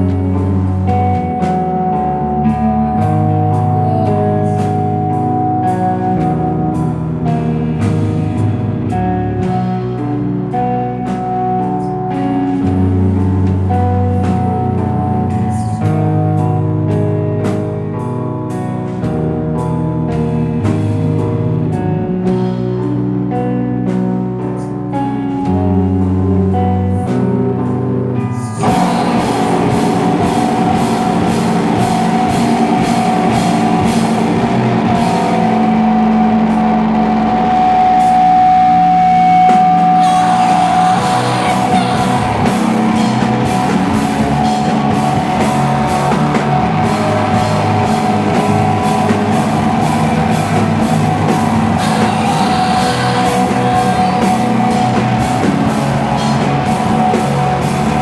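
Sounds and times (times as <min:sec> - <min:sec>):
guitar playing: 0:00.0 - 0:58.0
rock band playing loudly: 0:00.0 - 0:58.0.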